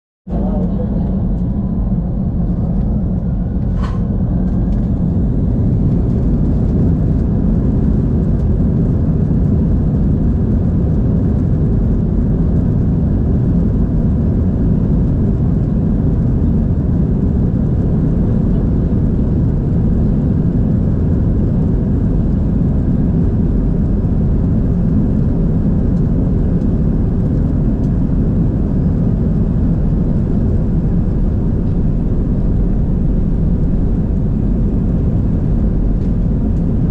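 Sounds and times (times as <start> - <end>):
airplane cabin rumble while taxiing: 0.3 - 36.9.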